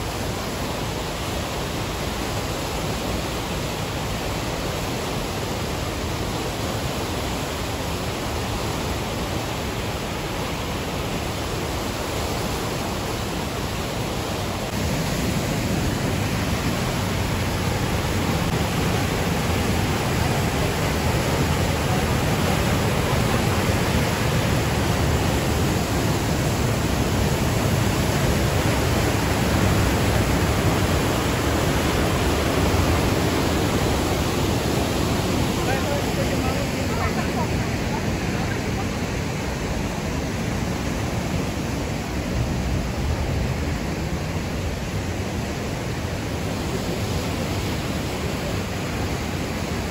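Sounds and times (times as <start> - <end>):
white water rushing through rapids: 0.0 - 49.9.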